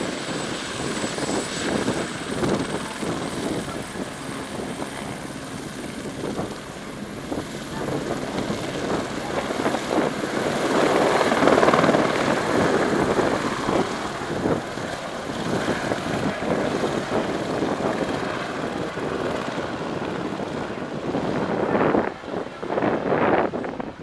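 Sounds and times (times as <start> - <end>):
helicopter engine and rotor: 0.0 - 24.0.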